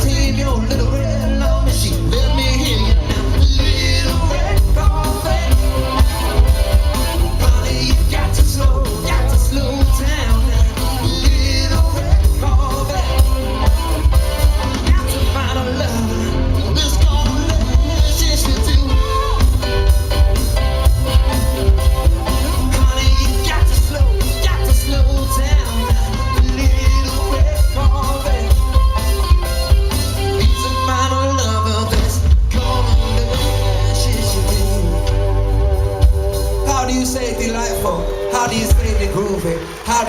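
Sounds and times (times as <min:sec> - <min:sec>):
person singing: 0:00.0 - 0:20.2, 0:21.1 - 0:40.0
live pop-rock band playing: 0:00.0 - 0:40.0.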